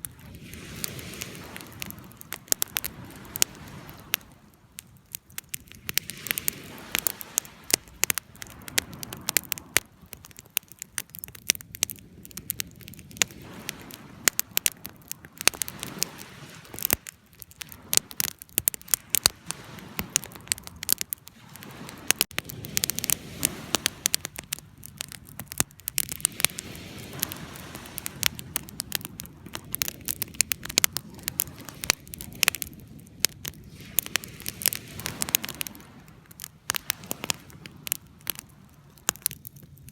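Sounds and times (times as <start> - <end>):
fire crackling and popping: 0.0 - 39.9
low rush of burning: 0.0 - 39.9.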